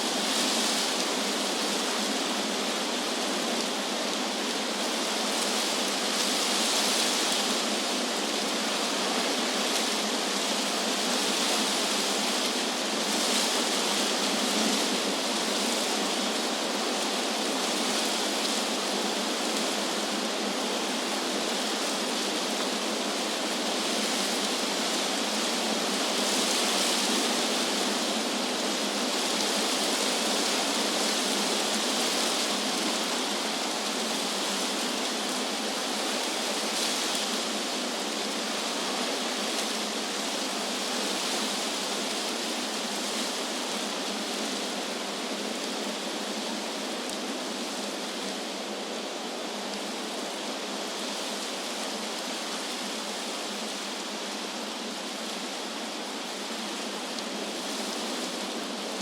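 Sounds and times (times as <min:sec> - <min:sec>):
wind blowing through trees: 0:00.0 - 0:59.0.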